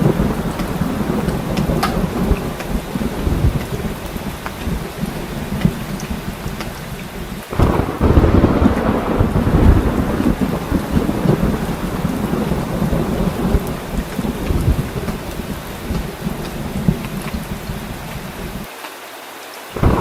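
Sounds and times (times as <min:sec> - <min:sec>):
thunder rumbling: 0:00.0 - 0:18.7, 0:19.8 - 0:20.0
heavy rain: 0:00.0 - 0:20.0.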